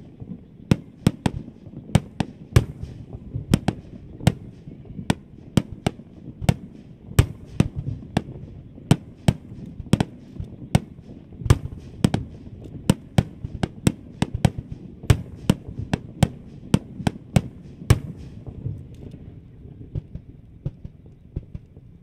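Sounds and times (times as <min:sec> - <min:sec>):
faint fireworks crackles: 0:00.0 - 0:22.0.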